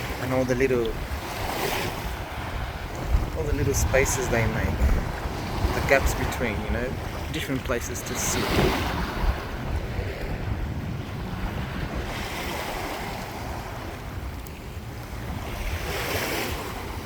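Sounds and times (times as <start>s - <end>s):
small waves washing: 0.0s - 17.0s
wind rumbling on microphone: 0.0s - 17.0s.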